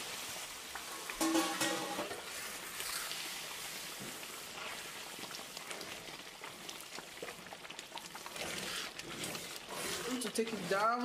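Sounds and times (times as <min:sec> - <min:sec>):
stew boiling and splattering: 0:00.0 - 0:11.0.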